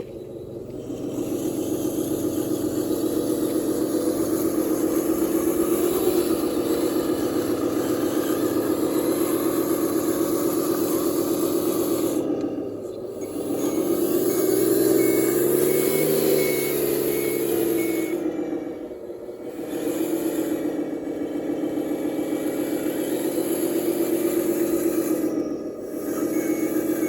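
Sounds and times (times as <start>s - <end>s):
toy machine motor pulsing: 0.8s - 12.4s, 13.0s - 18.2s, 19.5s - 27.0s.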